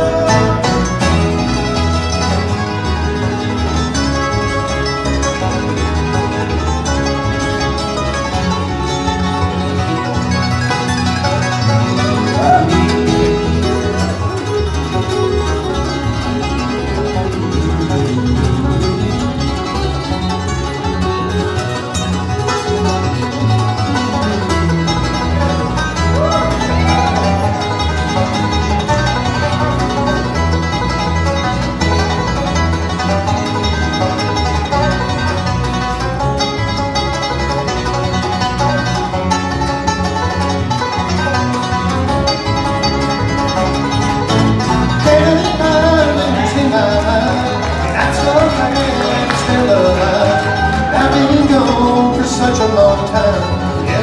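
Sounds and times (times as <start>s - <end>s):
bluegrass band playing: 0.0s - 54.0s.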